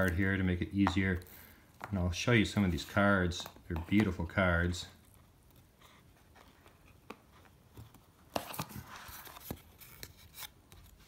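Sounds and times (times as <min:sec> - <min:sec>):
cardboard and cards handling: 0:00.0 - 0:11.0.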